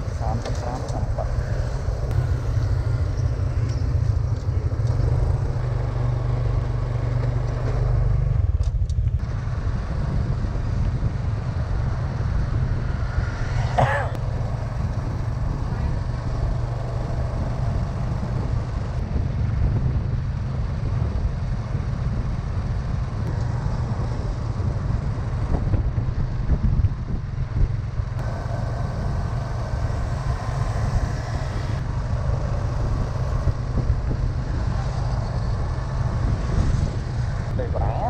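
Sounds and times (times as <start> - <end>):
motor vehicle rumble: 0.0 - 38.0.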